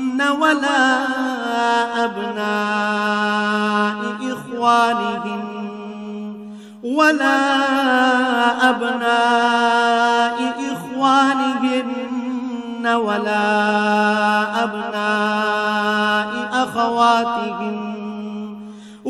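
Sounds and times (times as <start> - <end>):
man chanting verses: 0.0 - 18.6.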